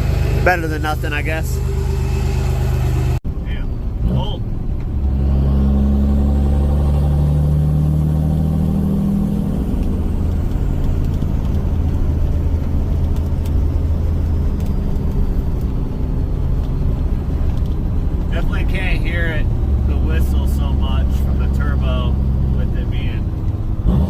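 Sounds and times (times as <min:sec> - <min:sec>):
diesel truck engine droning: 0:00.0 - 0:24.0.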